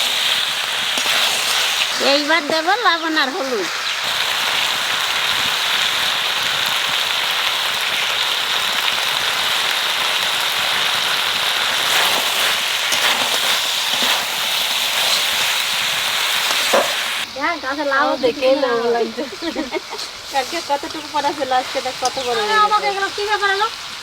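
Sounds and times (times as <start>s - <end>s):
chicken and onions sizzling in oil: 0.0s - 24.0s.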